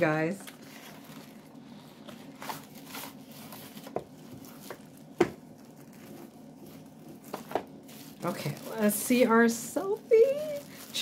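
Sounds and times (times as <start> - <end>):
packaging rustling and clicking: 0.5 - 11.0.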